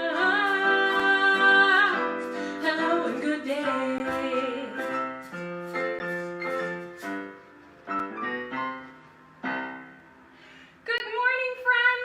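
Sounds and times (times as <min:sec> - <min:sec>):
piano playing: 0:00.0 - 0:10.6.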